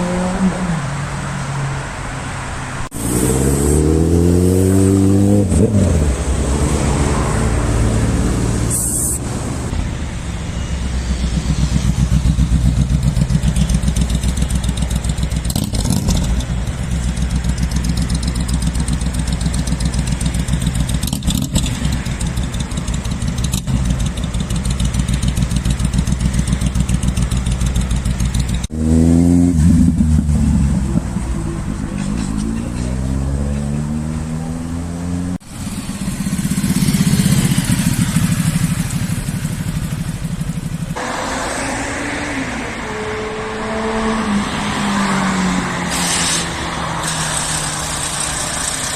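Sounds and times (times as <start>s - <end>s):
motorcycle engine revving: 2.9s - 48.9s.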